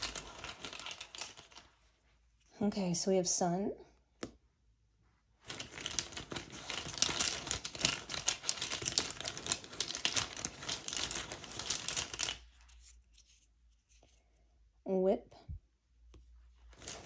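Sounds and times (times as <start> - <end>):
tiles rustling and clicking: 0.0 - 14.8, 15.4 - 17.0.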